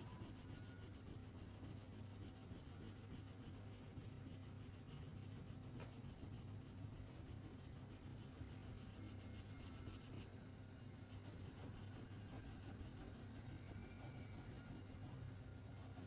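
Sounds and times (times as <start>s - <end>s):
wax crayon rubbing on paper: 0.0s - 10.3s, 10.9s - 16.0s.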